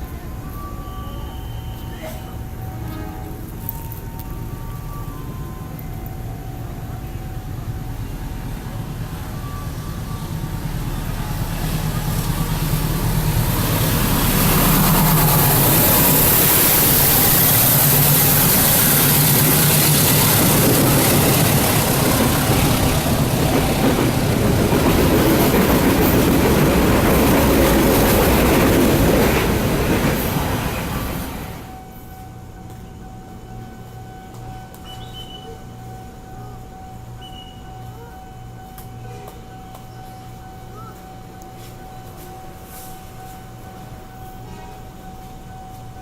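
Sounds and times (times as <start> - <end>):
rail noise: 0.0 - 46.0
train engine hum: 0.0 - 46.0.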